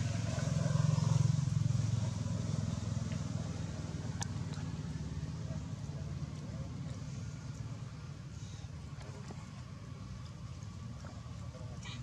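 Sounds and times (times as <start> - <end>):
engine running with pulsing hum: 0.0 - 12.0.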